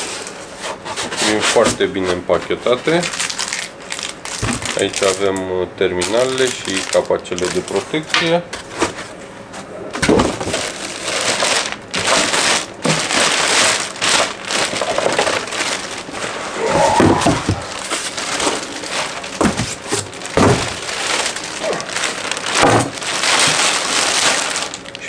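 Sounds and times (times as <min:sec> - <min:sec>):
plastic bag crinkling: 0:02.4 - 0:08.1, 0:10.2 - 0:25.0.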